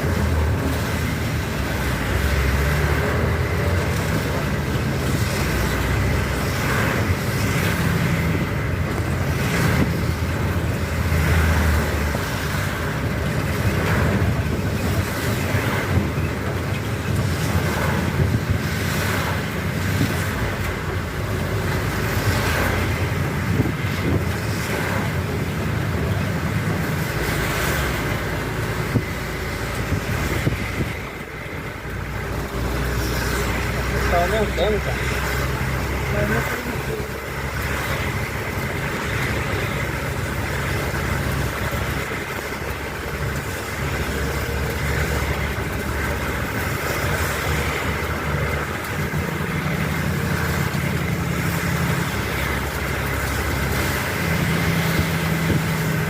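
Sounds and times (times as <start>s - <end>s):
heavy rain: 0.0s - 56.0s
tyres hissing on wet road: 0.0s - 56.0s.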